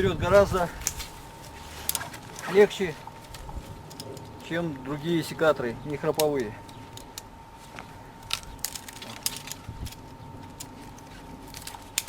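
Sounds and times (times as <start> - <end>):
pruning shears clicking: 0.5 - 4.6, 5.8 - 12.0.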